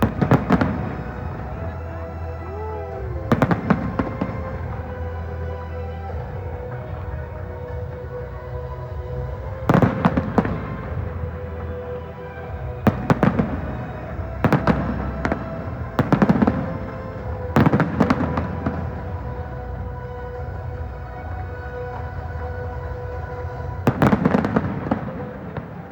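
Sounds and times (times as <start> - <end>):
fireworks bursting with sharp bangs: 0.0 - 8.0, 8.9 - 19.7, 23.8 - 25.9
background music: 0.0 - 25.9.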